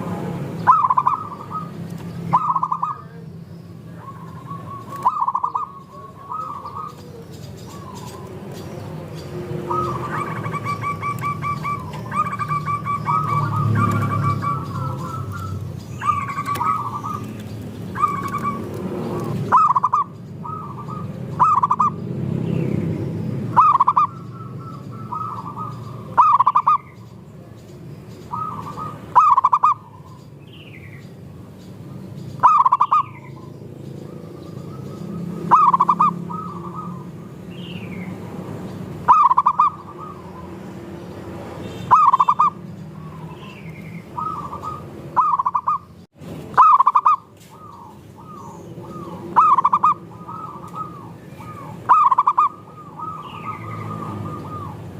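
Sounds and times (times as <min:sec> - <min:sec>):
doves cooing: 0:00.0 - 0:22.0, 0:23.4 - 0:27.1, 0:28.2 - 0:30.2, 0:32.4 - 0:40.9, 0:41.9 - 0:54.9.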